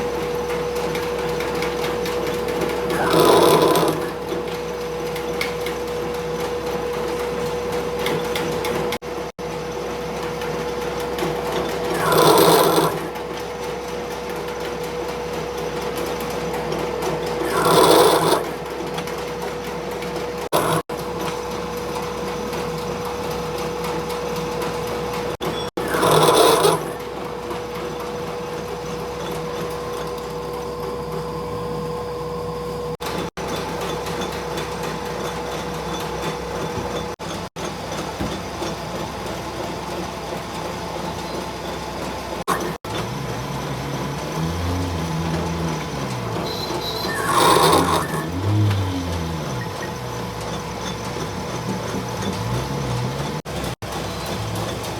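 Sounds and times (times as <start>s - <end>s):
workshop machine humming: 0.0s - 54.9s.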